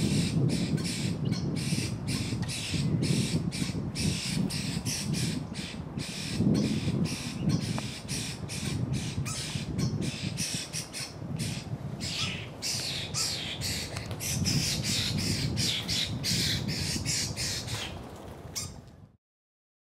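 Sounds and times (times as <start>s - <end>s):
bird squawking: 0.0s - 18.0s.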